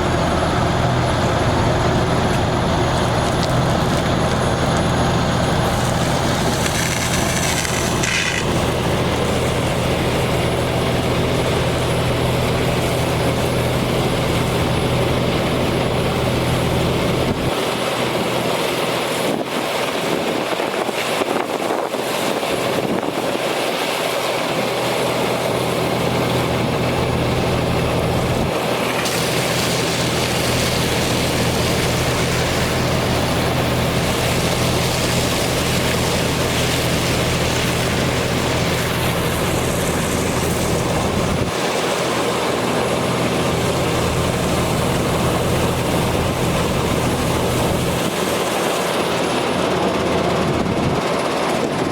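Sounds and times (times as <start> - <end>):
diesel engine humming: 0.0 - 19.5, 24.7 - 51.9
water pump hiss: 0.0 - 22.8, 23.4 - 49.6.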